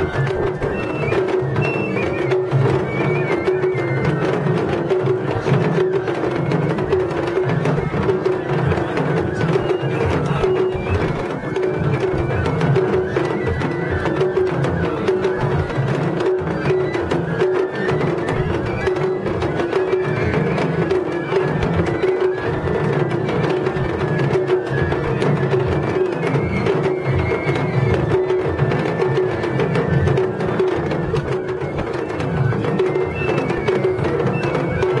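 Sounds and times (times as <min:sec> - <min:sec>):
taiko drums drumming: 0:00.0 - 0:35.0.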